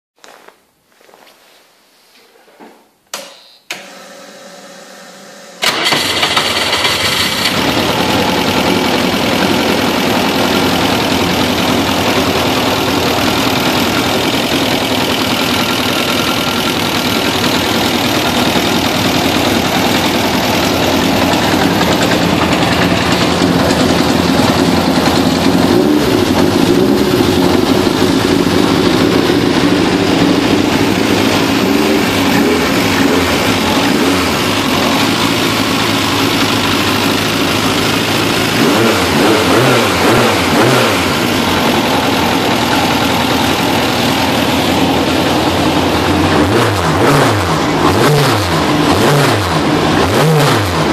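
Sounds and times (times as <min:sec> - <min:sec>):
racing engine idling and revving: 0:05.6 - 0:50.9.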